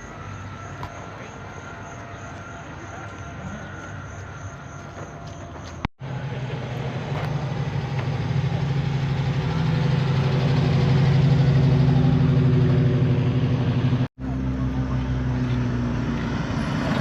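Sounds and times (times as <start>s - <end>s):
car engine idling: 0.0s - 16.3s.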